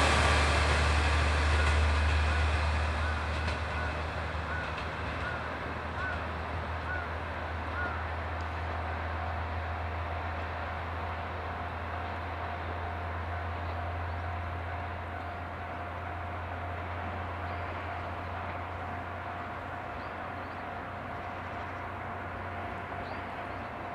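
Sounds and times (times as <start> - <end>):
diesel railcar engine drone: 0.0 - 23.9.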